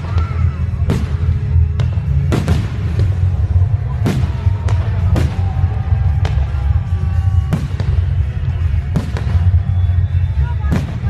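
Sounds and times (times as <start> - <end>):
continuous low rumble: 0.0 - 11.0.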